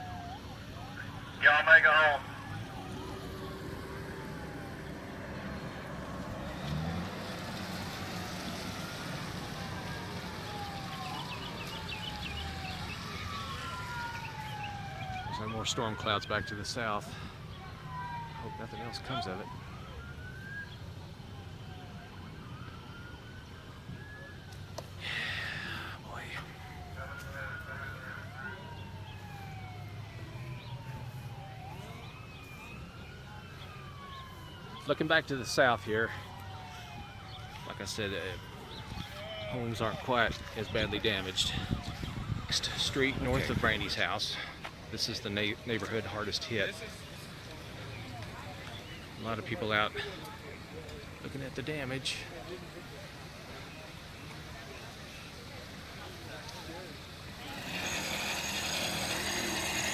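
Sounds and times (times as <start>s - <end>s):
distant siren wailing: 0.0s - 51.4s, 52.2s - 59.9s.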